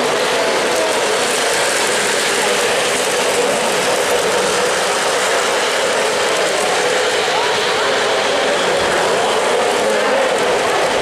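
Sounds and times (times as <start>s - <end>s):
model train motor whirring: 0.0s - 11.0s
wheels rolling on rails: 0.0s - 11.0s.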